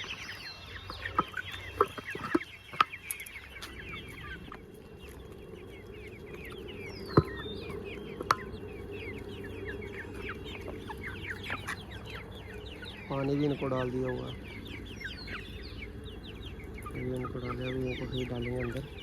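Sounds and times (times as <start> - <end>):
chickens calling: 0.0 - 19.0.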